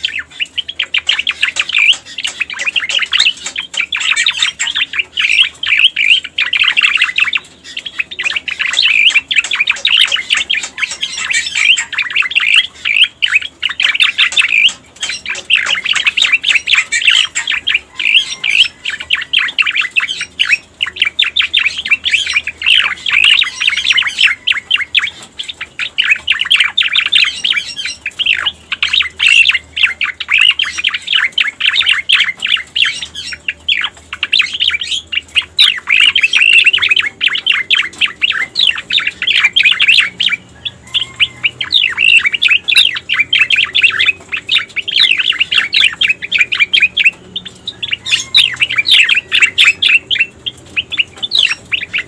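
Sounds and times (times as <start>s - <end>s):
bird chattering song: 0.0s - 52.0s.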